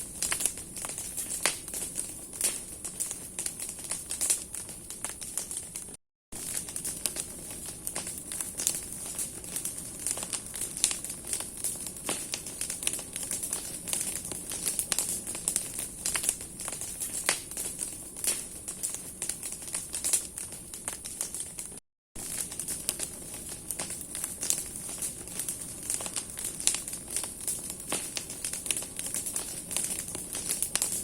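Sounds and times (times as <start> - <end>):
bonfire crackling: 0.0 - 31.0.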